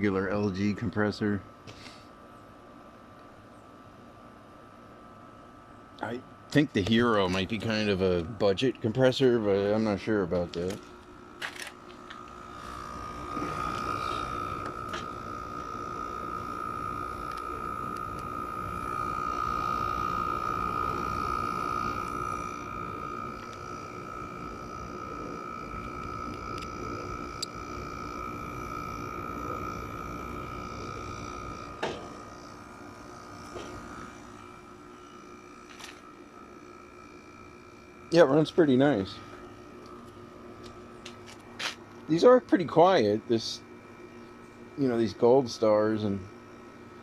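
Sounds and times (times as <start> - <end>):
air conditioner humming: 0.0 - 47.0
high steady whine: 0.0 - 47.0.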